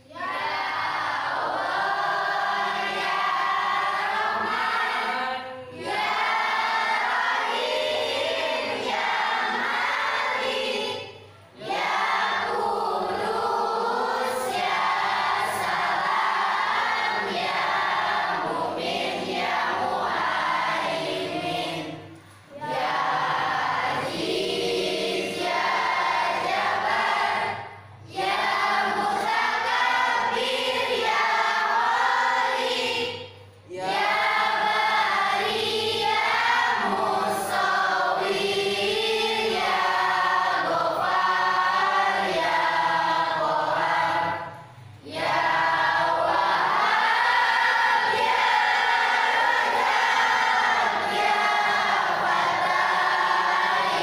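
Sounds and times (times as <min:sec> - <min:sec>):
group of teenagers singing: 0:00.0 - 0:54.0.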